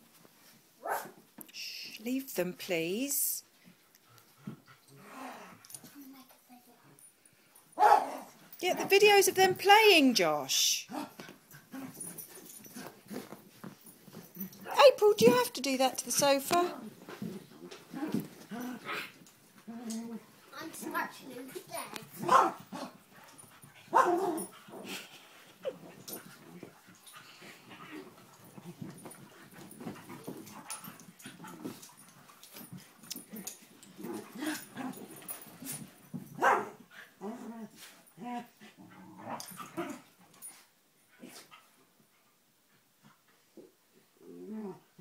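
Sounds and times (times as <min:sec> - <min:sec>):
dogs growling and scuffling: 0:02.6 - 0:10.2, 0:10.8 - 0:45.0.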